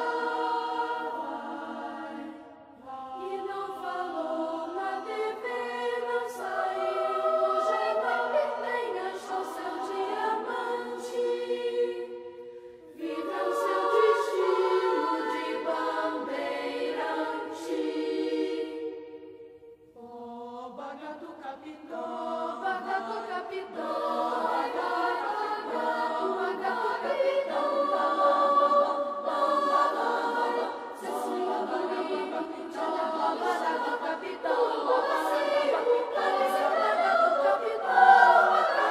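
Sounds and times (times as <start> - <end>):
children's choir singing: 0.0 - 38.9.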